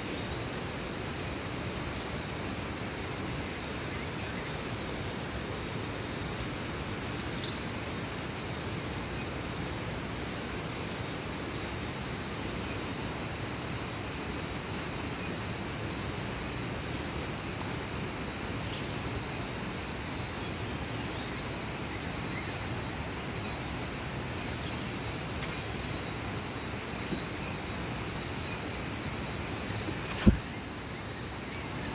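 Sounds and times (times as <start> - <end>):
high-pitched insect drone: 0.0 - 31.9.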